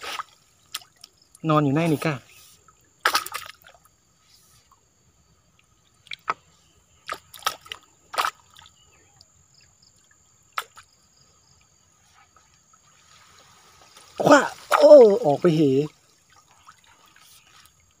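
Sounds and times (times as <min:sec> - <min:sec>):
water dripping into river: 0:00.1 - 0:04.1, 0:04.8 - 0:11.8, 0:13.9 - 0:18.0.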